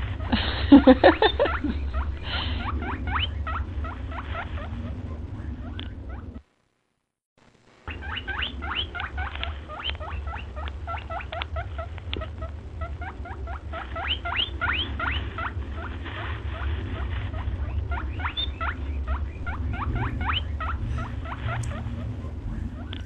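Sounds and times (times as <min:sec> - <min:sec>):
low steady hum: 0:00.0 - 0:23.0
high-pitched animal squeaks: 0:00.2 - 0:05.0, 0:07.9 - 0:23.0.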